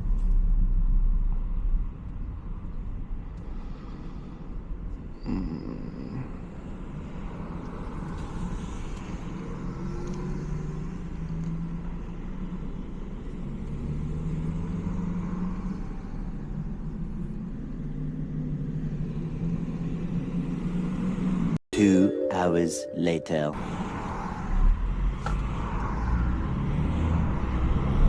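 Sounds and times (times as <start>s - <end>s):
road noise: 0.0s - 21.6s, 23.3s - 28.0s.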